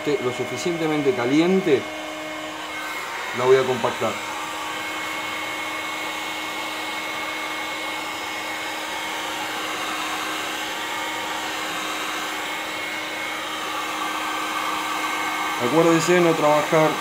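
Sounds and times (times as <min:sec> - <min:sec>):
heat gun blowing air: 0:00.0 - 0:17.0.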